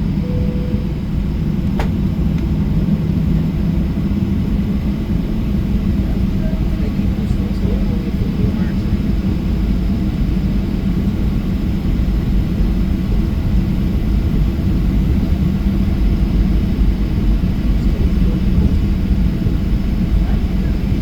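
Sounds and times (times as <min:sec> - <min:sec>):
jet engines heard from cabin: 0:00.0 - 0:21.0.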